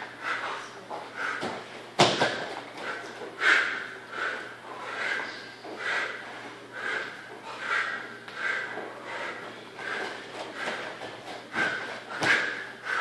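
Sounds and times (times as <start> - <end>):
forceful rhythmic breathing out: 0.0 - 13.0.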